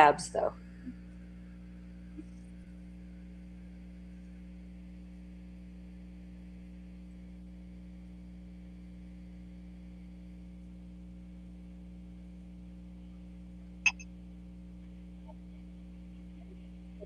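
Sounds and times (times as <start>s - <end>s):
mains hum: 0.0s - 17.0s.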